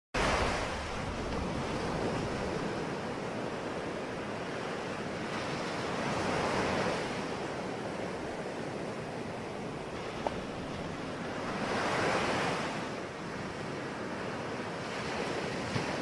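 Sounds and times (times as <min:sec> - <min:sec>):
ocean waves breaking on shore: 0:00.2 - 0:16.0.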